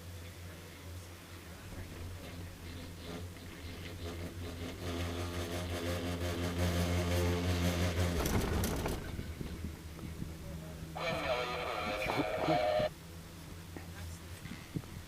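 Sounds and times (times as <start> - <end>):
chairlift humming drone: 0.0 - 14.7.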